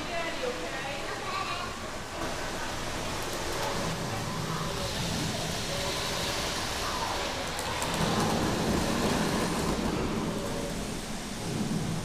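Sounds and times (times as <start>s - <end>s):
faint distant voices: 0.0s - 12.0s
room noise hiss: 0.0s - 12.0s.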